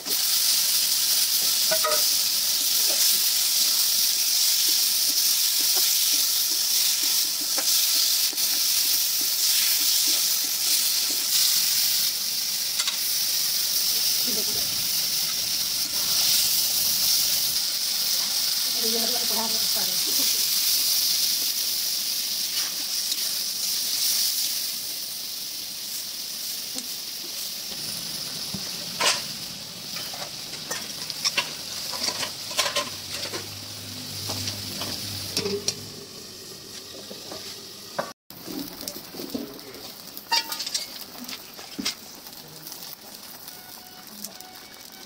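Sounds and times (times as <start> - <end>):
gravy sizzling in pan: 0.0 - 45.0.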